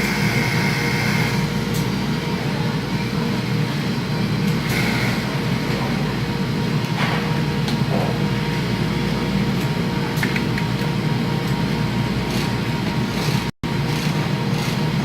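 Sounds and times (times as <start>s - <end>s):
low hum of factory machinery: 0.0s - 15.0s.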